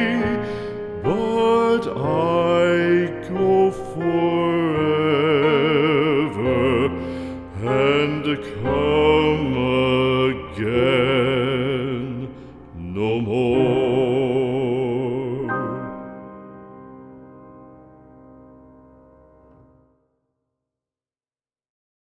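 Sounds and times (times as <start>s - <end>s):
slow instrumental music: 0.0s - 19.8s.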